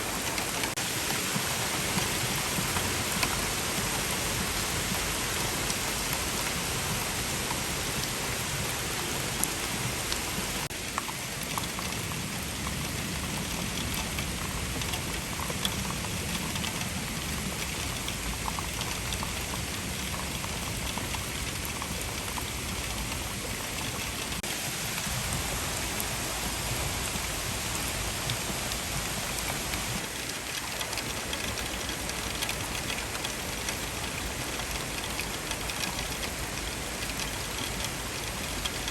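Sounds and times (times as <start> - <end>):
intense rain downpour: 0.0 - 38.9.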